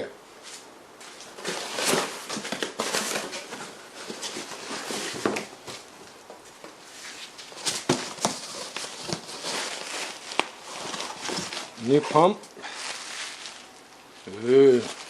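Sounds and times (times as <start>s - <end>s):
packaging rustling: 1.2s - 6.2s, 7.1s - 15.0s.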